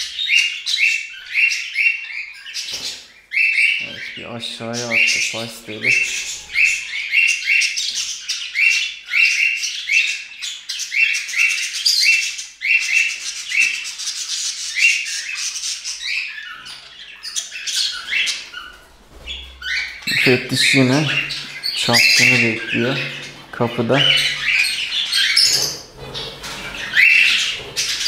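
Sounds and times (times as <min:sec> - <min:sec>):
budgerigars chattering: 0:00.0 - 0:28.0
budgerigars squawking: 0:00.0 - 0:28.0.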